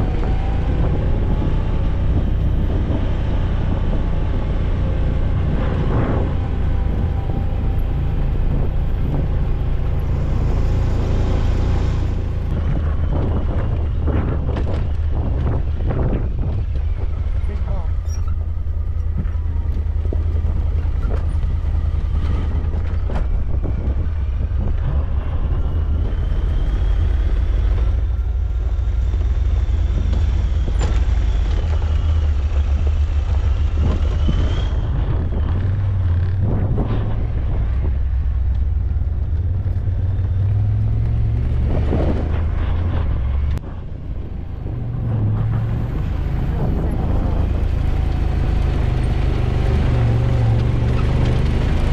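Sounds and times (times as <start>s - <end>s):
road noise: 0.0s - 51.9s
vehicle engine running: 0.0s - 51.9s
wind noise: 0.0s - 51.9s.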